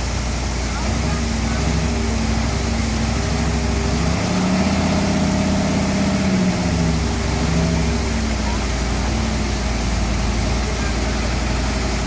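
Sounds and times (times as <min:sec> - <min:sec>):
fire engine engine idling: 0:00.0 - 0:12.0.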